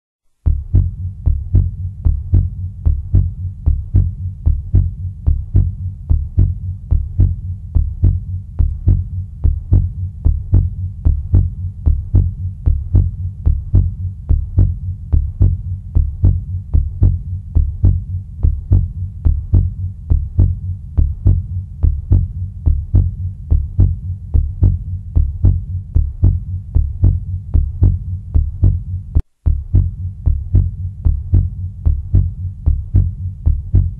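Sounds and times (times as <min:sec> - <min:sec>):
heartbeat: 0:00.4 - 0:33.9.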